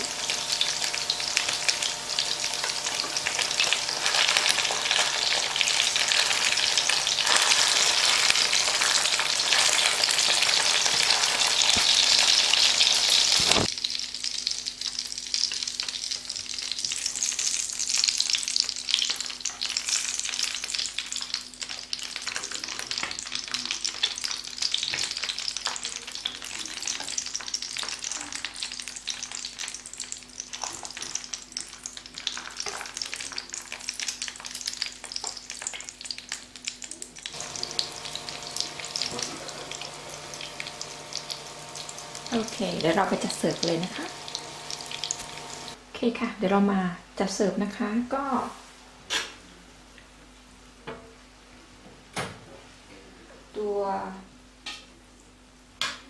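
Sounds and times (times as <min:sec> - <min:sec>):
sausages sizzling in oil: 0:00.0 - 0:45.8.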